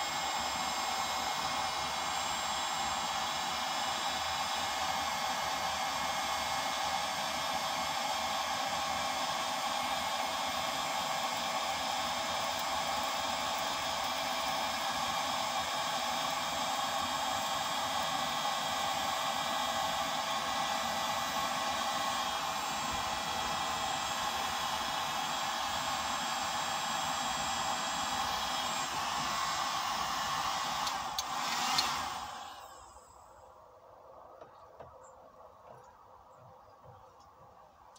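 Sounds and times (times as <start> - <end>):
heat gun fan blowing: 0.0 - 35.8
faint motor whine: 0.0 - 37.9.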